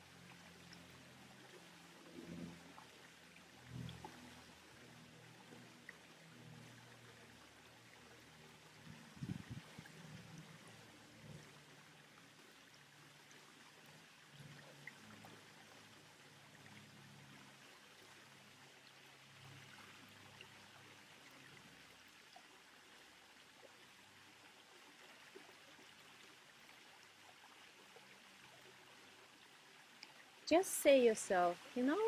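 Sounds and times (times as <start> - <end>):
small waterfall rushing: 4.2 - 32.0.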